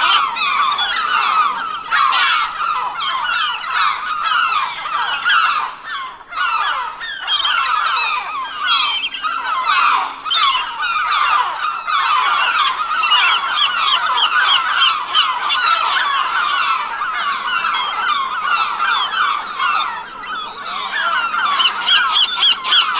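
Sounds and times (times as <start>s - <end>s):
gulls calling: 0.0s - 22.9s.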